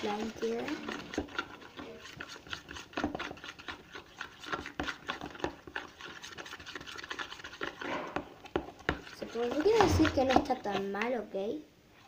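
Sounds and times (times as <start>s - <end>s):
utensil scraping plastic bowl: 0.0s - 11.4s.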